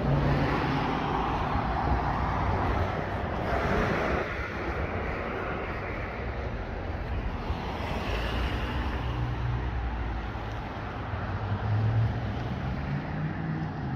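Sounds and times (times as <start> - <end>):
wind on microphone: 0.0 - 11.3.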